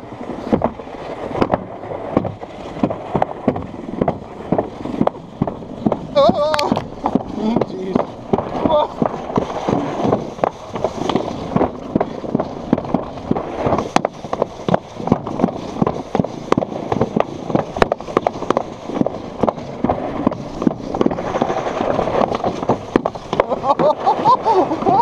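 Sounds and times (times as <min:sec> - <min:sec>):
sled rattling down concrete track: 0:00.0 - 0:25.0
sharp clacks and knocks: 0:00.4 - 0:24.2.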